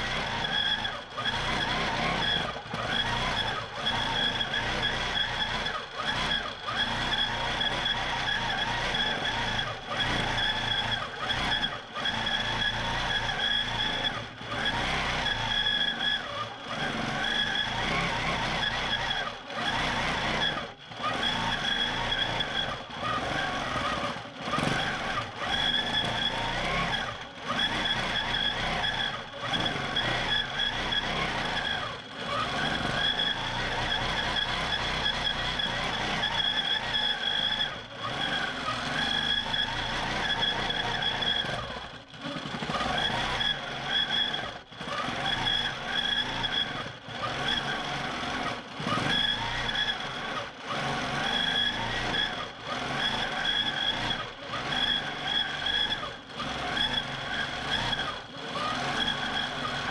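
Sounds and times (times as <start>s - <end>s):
quilting machine motor whining: 0.0s - 59.9s.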